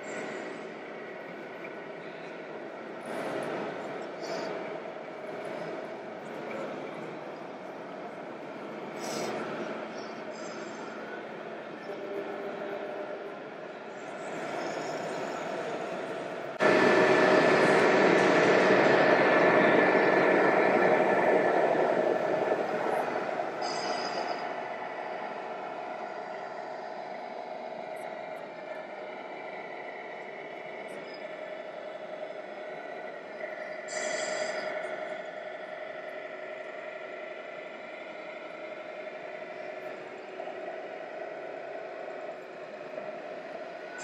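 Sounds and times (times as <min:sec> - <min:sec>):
rc truck engine sound drone: 0:00.0 - 0:44.0.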